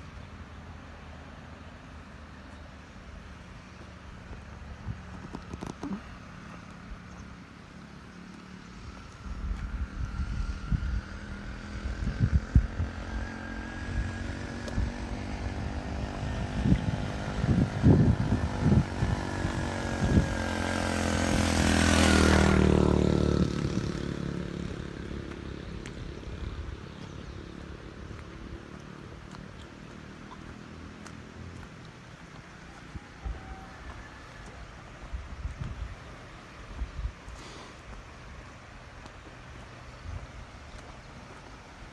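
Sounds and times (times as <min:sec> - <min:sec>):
vehicle engine passing by: 0:00.0 - 0:41.8.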